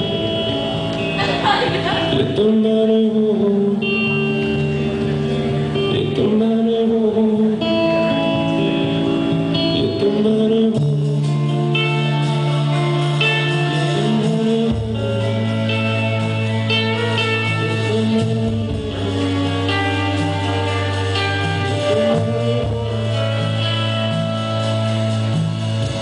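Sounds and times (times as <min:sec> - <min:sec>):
acoustic guitar: 0:00.0 - 0:26.0
electric guitar: 0:00.0 - 0:26.0
man singing: 0:00.0 - 0:26.0.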